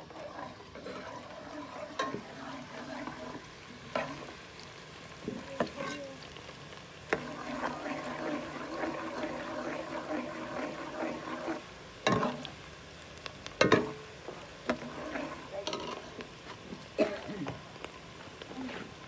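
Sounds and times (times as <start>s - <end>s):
onions frying in oil: 0.0s - 19.0s.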